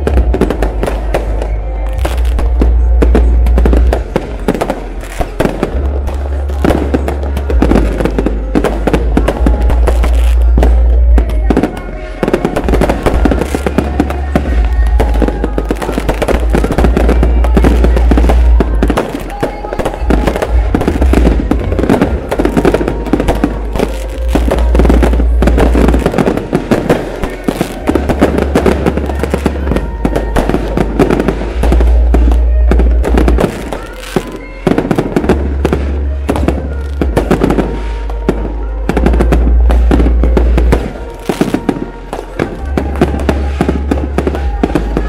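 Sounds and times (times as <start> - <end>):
bass-heavy music: 0.0 - 45.0
fireworks bangs and crackles: 0.0 - 45.0.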